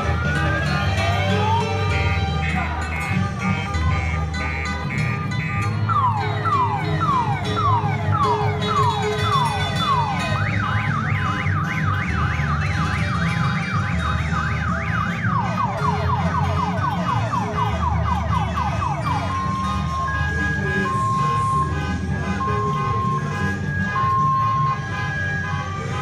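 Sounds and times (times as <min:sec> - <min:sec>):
ambulance siren: 0:00.0 - 0:26.0
low rumble of vehicle engines: 0:00.0 - 0:26.0.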